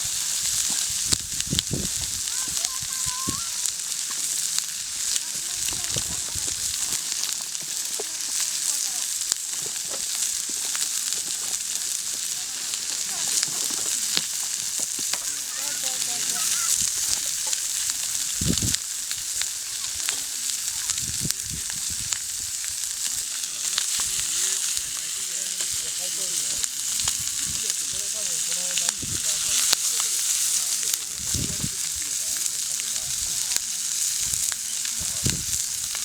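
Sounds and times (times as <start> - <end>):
crackles and pops: 0.0 - 36.0
food sizzling in a pan: 0.0 - 36.0.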